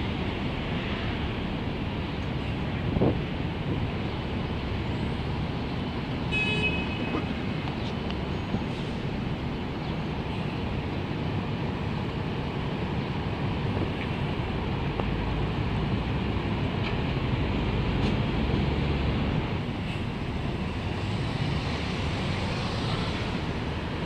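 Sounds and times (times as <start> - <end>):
bus engine rumbling: 0.0 - 24.0
cars passing: 0.0 - 24.0.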